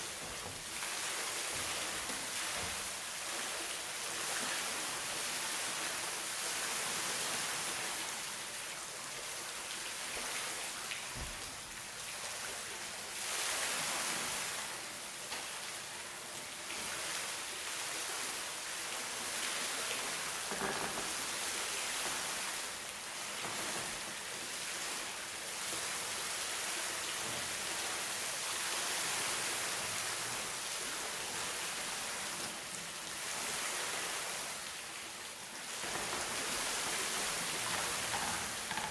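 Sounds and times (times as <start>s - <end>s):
rushing water hiss: 0.0s - 38.9s.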